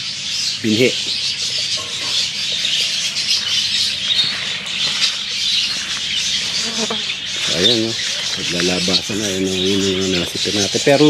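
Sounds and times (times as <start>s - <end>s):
birds chattering and squawking: 0.0s - 11.0s.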